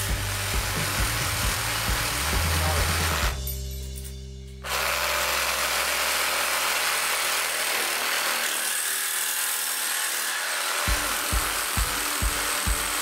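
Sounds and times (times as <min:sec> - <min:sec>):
jigsaw cutting aluminium: 0:00.0 - 0:03.4, 0:04.6 - 0:13.0.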